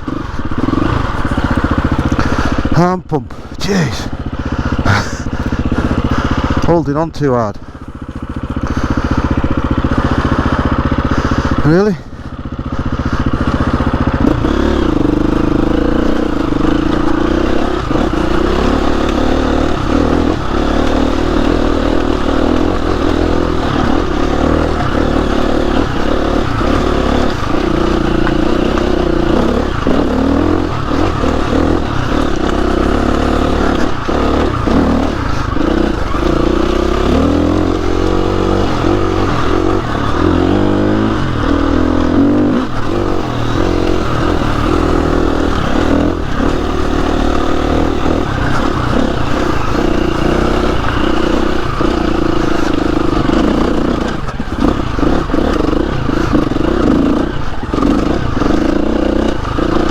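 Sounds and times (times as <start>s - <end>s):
knocks and clatter over rough ground: 0.0s - 59.9s
motorcycle engine revving: 0.0s - 59.9s.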